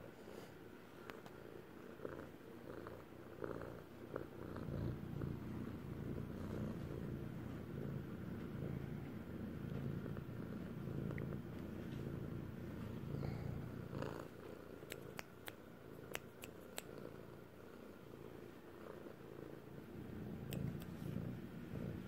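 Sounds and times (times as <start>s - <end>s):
cat purring: 0.1s - 22.0s.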